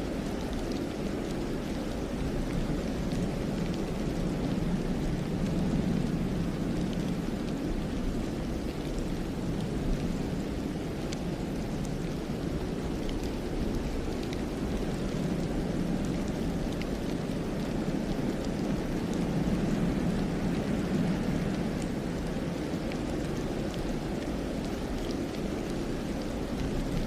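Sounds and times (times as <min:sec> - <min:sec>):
wind rushing through pines: 0:00.0 - 0:27.0.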